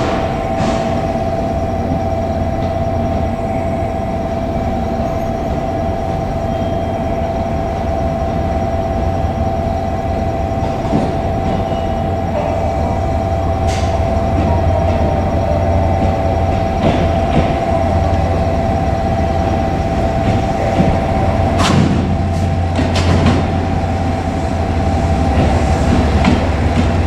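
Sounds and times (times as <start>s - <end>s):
diesel railcar rumble: 0.0s - 27.0s
level crossing bell ringing: 0.0s - 27.0s.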